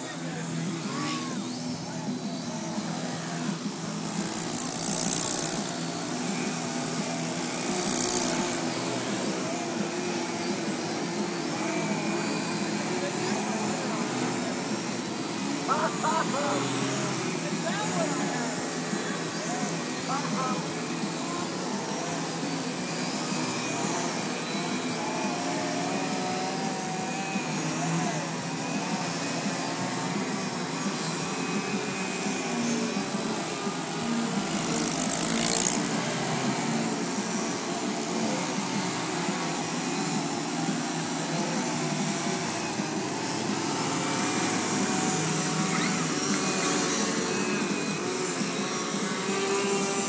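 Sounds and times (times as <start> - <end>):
model plane motors droning: 0.0 - 50.0.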